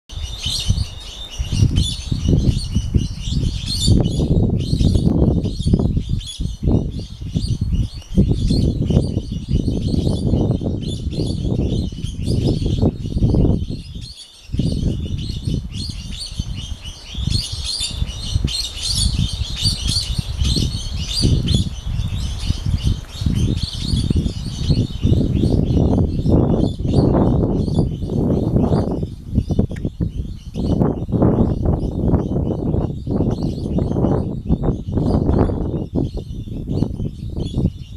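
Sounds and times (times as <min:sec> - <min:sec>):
birds chirping: 0:00.1 - 0:37.9
wind buffeting microphone: 0:00.1 - 0:37.9.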